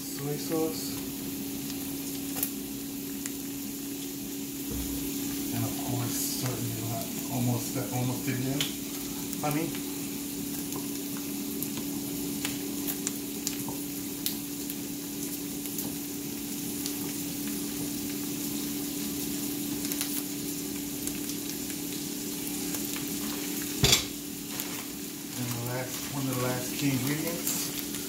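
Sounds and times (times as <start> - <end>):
sauce sizzling in a skillet: 0.0 - 28.0.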